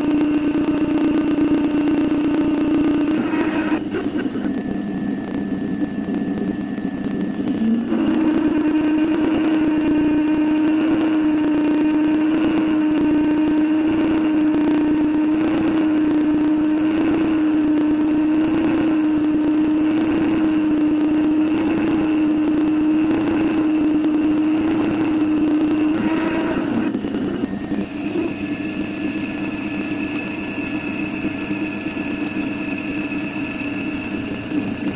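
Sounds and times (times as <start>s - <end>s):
lathe cutting hum: 0.0s - 4.6s, 7.4s - 34.9s
machine running: 0.0s - 34.9s.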